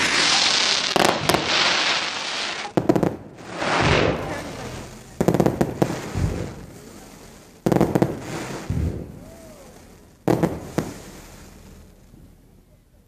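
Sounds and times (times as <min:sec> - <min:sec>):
fireworks exploding: 0:00.0 - 0:12.7.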